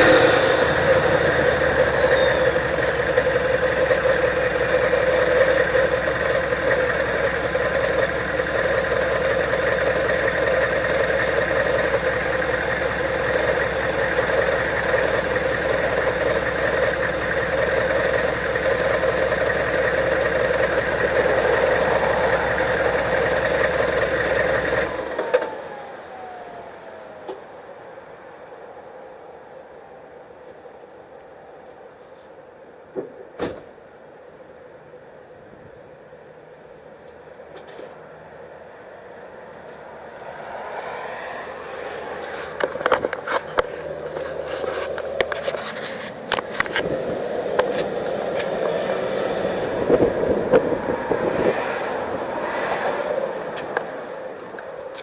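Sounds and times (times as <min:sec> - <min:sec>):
diesel engine idling: 0:00.0 - 0:31.6, 0:34.0 - 0:52.4
faint whine winding down: 0:00.0 - 0:32.8, 0:34.2 - 0:55.0.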